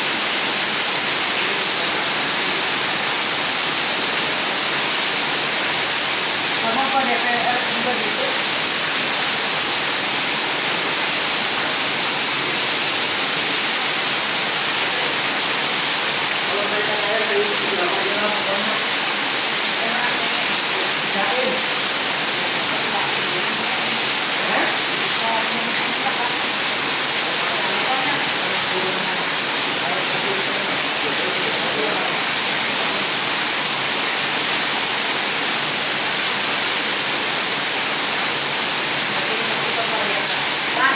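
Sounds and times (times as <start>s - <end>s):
rainwater gushing from drain spouts: 0.0s - 40.9s.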